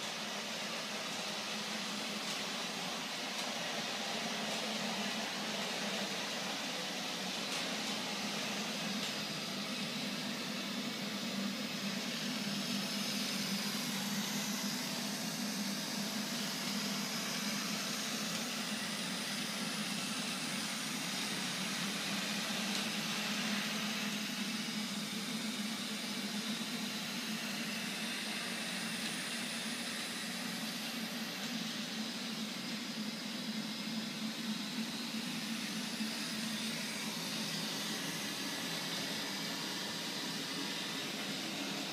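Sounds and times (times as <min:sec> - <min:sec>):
robot vacuum cleaner motor hum: 0:00.3 - 0:41.9.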